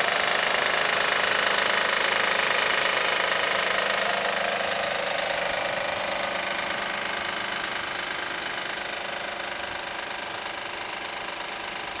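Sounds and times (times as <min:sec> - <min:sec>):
car engine with knocking rattle: 0:00.0 - 0:12.0.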